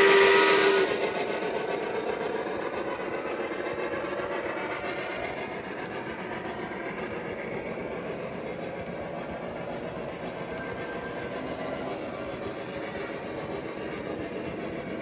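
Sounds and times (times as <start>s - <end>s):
model train wheels rolling: 0.0s - 15.0s.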